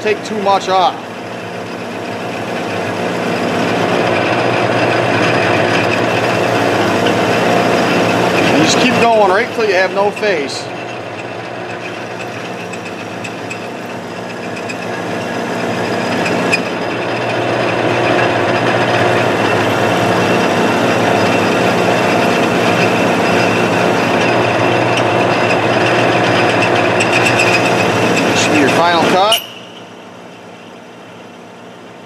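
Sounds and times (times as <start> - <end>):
metal lathe humming: 0.0 - 32.0.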